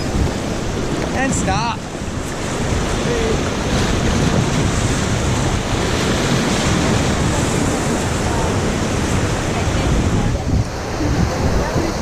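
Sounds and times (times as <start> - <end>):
river water rushing: 0.0 - 12.0
wind noise on microphone: 0.0 - 12.0.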